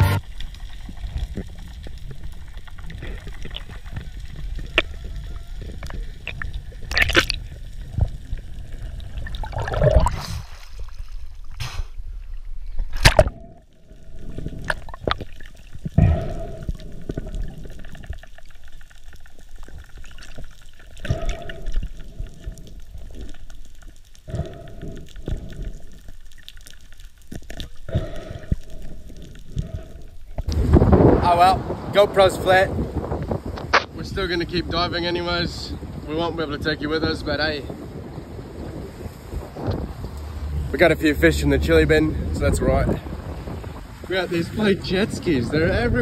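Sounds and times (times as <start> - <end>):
muffled underwater rumble: 0.0 - 10.4, 11.6 - 46.0
water gurgling: 0.0 - 46.0.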